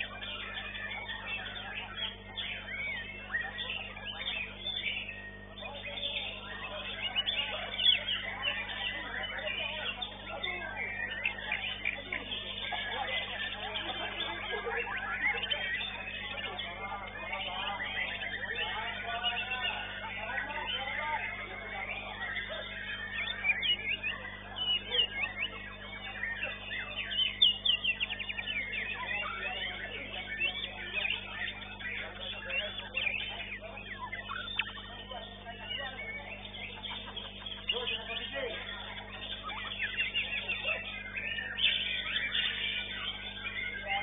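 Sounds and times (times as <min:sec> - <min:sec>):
bird singing whistles and chirps: 0:00.0 - 0:44.0.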